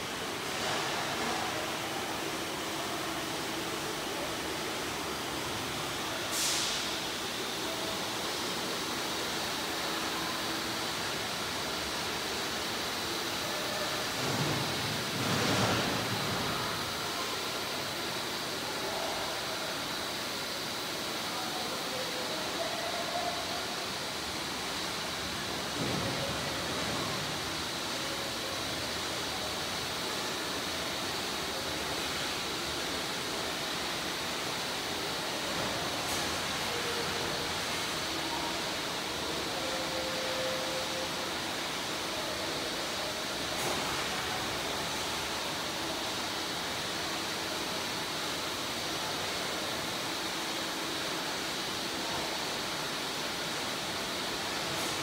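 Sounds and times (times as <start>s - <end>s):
factory machinery hiss: 0.0s - 55.0s.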